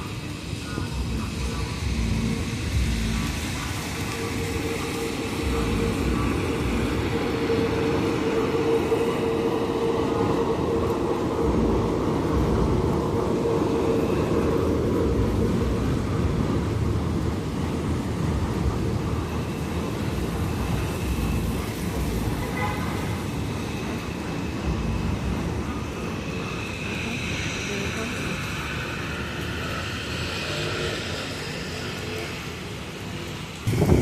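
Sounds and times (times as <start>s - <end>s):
subway train rumbling past: 0.0s - 34.0s.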